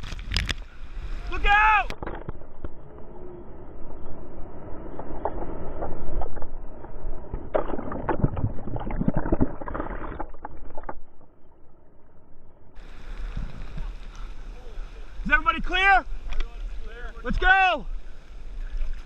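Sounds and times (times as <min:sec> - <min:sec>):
muffled wave splashing: 0:00.0 - 0:19.0.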